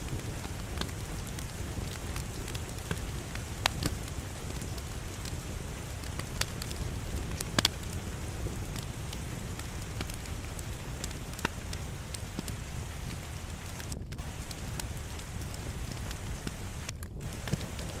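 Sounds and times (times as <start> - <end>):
fire crackles and pops: 0.0 - 18.0
wood fire rumbling and hissing: 0.0 - 18.0.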